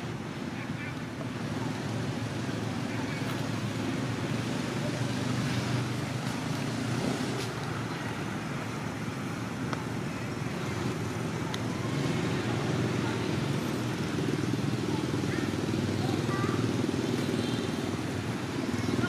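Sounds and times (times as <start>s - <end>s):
motor traffic rumble: 0.0s - 19.0s.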